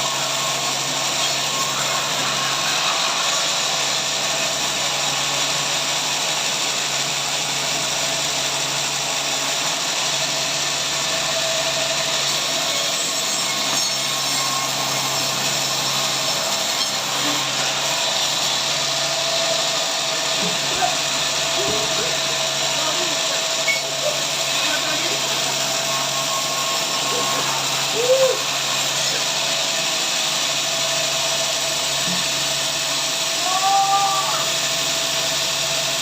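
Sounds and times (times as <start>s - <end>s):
powered saw cutting log: 0.0s - 36.0s.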